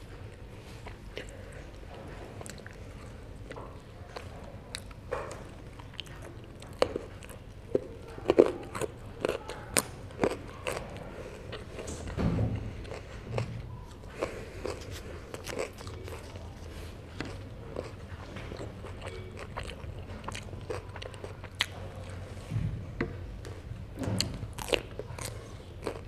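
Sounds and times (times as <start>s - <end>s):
chewing and biting fish: 0.0s - 22.3s, 23.4s - 26.0s.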